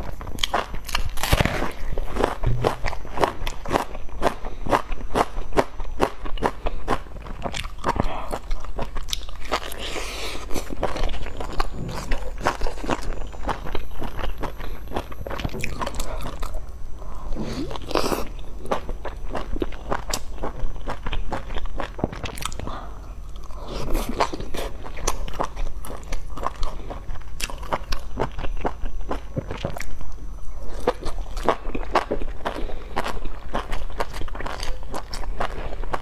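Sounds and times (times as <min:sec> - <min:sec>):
crunchy chewing of dumplings: 0:00.0 - 0:36.0.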